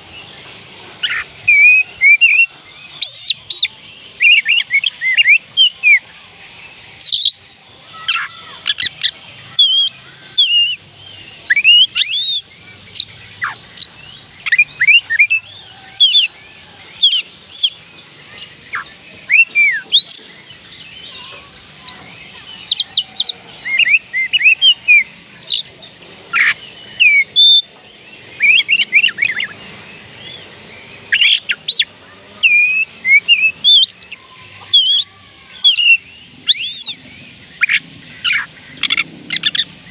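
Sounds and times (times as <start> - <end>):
bird singing whistled notes: 1.0 - 39.9.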